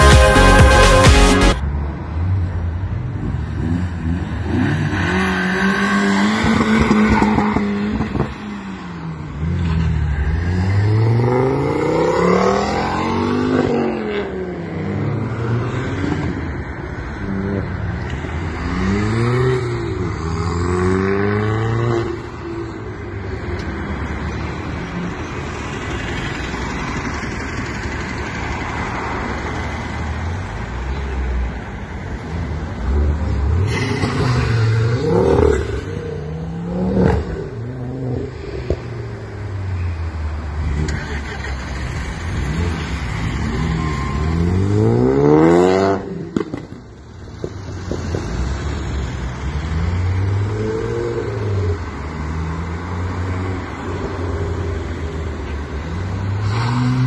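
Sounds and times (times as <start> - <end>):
car engines revving and passing: 1.6 - 57.0.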